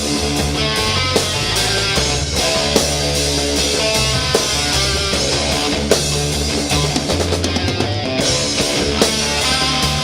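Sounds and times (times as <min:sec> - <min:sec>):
heavy rock music: 0:00.0 - 0:10.0.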